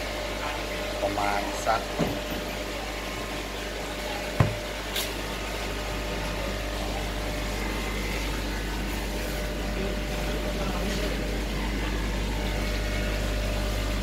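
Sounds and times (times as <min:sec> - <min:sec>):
aquarium air pump hum: 0:00.0 - 0:14.0.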